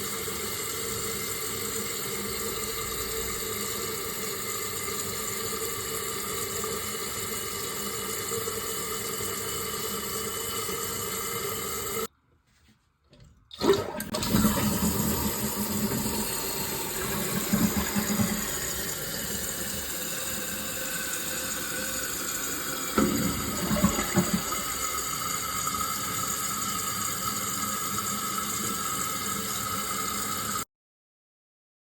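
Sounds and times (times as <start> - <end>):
toilet flush gurgling: 0.0 - 12.1, 13.5 - 30.6
toilet tank filling hiss: 0.0 - 12.1, 13.5 - 30.6.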